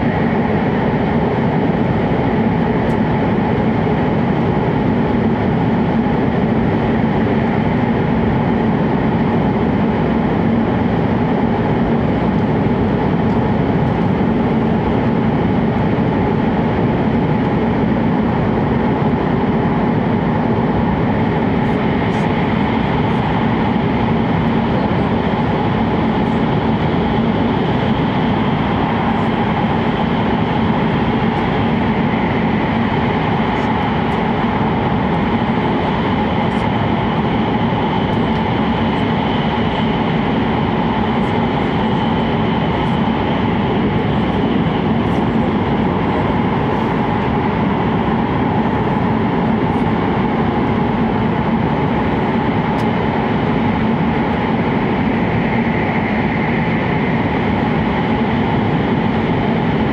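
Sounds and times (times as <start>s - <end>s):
train interior rushing hum: 0.0s - 59.9s.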